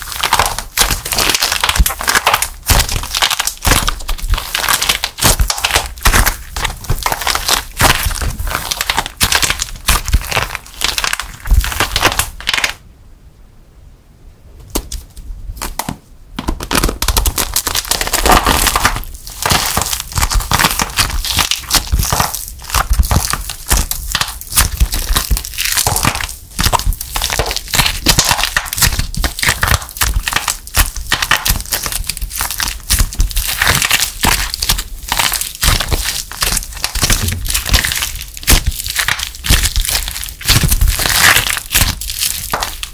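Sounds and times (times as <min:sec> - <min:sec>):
dry clay crackling by hand: 0:00.0 - 0:12.8, 0:14.6 - 0:42.9.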